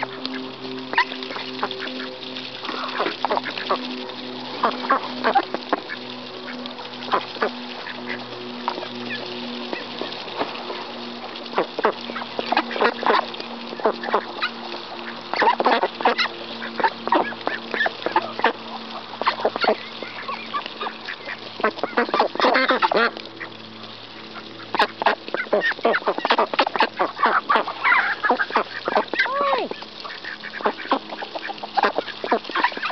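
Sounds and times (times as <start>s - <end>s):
duck bills clicking in grain: 0.0s - 32.9s.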